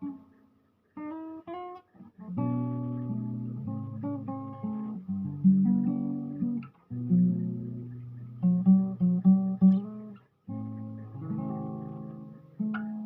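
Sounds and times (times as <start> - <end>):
fingerstyle acoustic guitar: 1.0 - 13.0.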